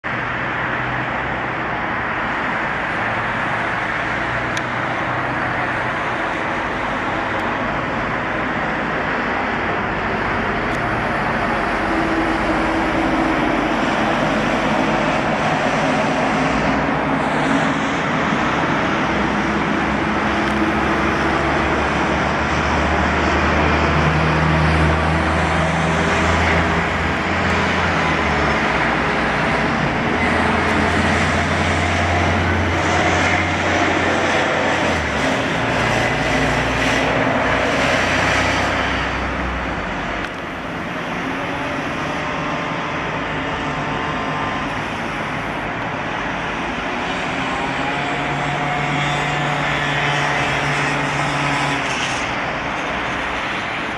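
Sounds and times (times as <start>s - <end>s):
diesel bus engines: 0.0s - 53.9s
road traffic: 0.0s - 53.9s.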